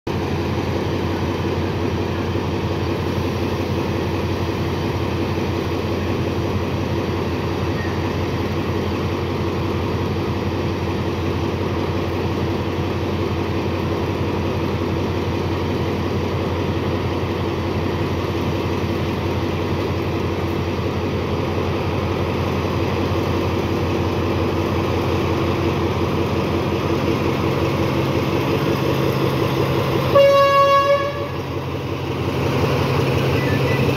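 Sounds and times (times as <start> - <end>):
diesel locomotive idling: 0.1 - 33.9.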